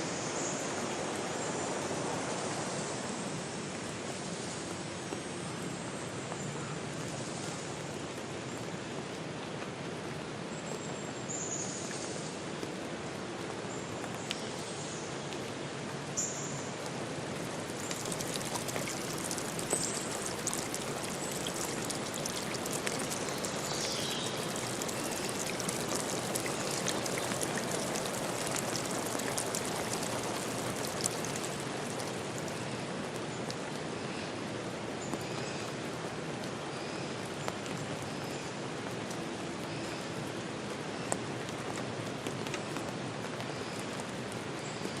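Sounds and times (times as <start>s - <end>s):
steady water noise: 0.0s - 45.0s.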